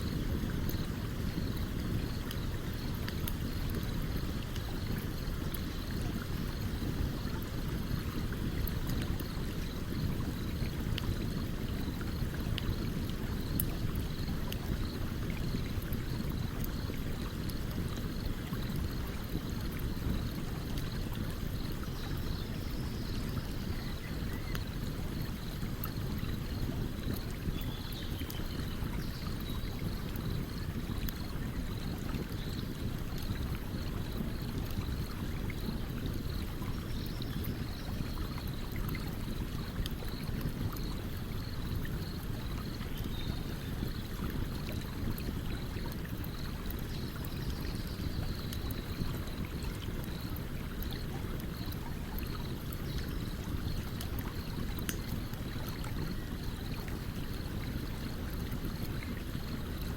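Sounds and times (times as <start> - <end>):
campfire crackles and pops: 0.0 - 22.6, 23.6 - 36.6, 37.3 - 56.4
stream water running: 0.0 - 59.9.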